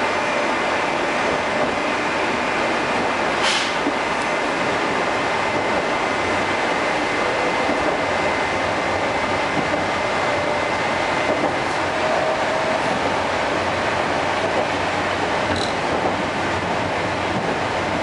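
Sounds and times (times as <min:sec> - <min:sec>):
train running noise: 0:00.0 - 0:18.0.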